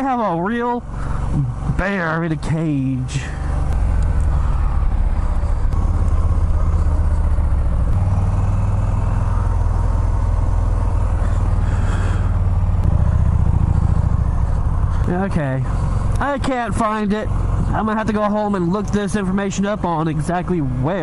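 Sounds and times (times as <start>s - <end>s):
motorcycle engine low exhaust note: 0.0s - 21.0s.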